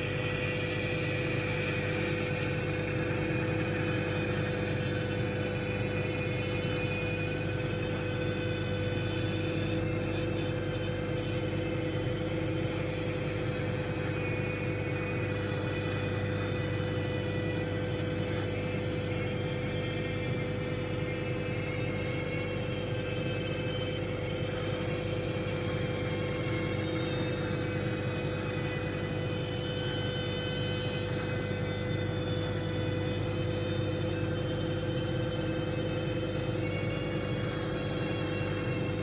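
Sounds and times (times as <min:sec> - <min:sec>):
microwave oven humming: 0:00.0 - 0:39.0.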